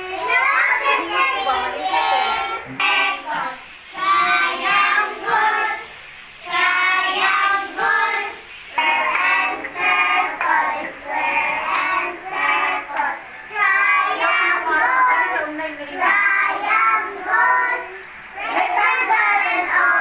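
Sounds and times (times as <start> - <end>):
children singing: 0.0 - 15.4, 16.0 - 20.0.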